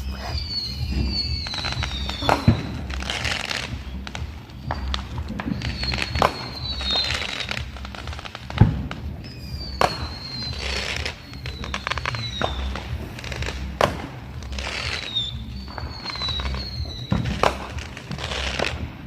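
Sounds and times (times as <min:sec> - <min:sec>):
fireworks bangs: 0:00.0 - 0:19.0
fireworks crackling: 0:00.0 - 0:19.0
fireworks whistles: 0:00.0 - 0:19.0.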